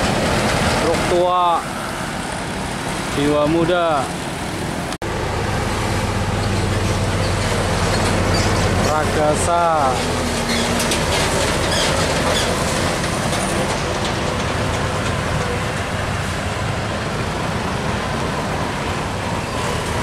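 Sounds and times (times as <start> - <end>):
diesel trucks passing: 0.0 - 20.0.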